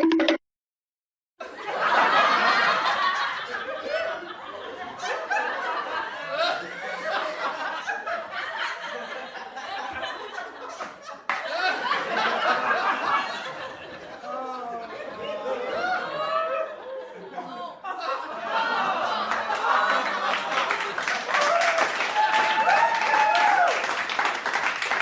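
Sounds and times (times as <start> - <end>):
group of people laughing: 1.4 - 25.0.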